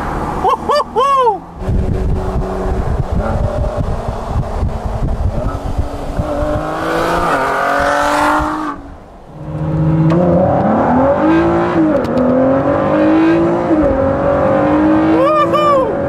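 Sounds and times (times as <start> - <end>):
car engine accelerating: 0.0 - 16.0
rush of wind: 0.0 - 16.0.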